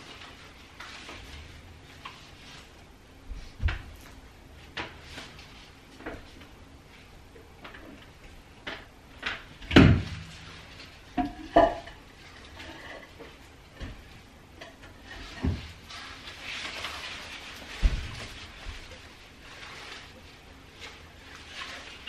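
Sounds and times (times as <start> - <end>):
heavy plant pot knocking and scraping: 0.0 - 22.0.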